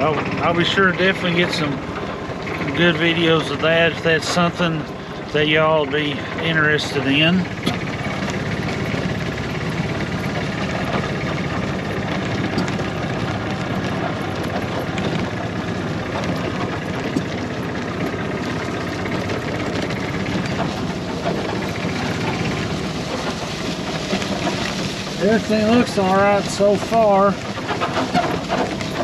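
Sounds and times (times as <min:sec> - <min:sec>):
golf cart motor running: 0:00.0 - 0:29.0
light rattling and clicking: 0:00.0 - 0:29.0.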